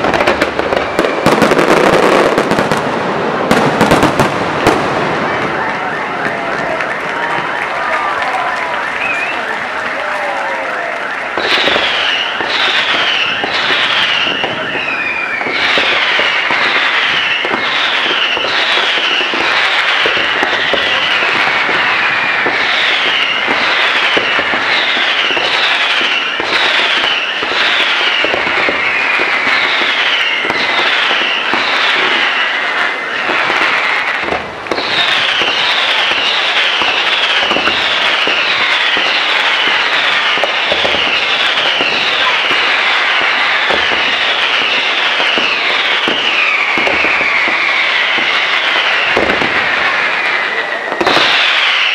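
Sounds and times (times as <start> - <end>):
falling firework whistles: 0.0 - 51.9
firework crackle and pops: 0.0 - 51.9.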